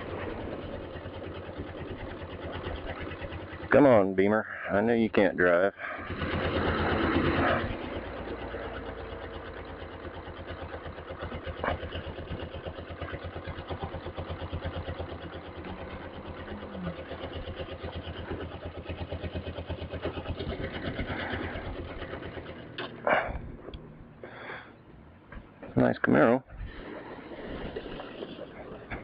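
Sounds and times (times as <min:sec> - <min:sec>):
motorcycle engine at low speed: 0:00.0 - 0:29.0.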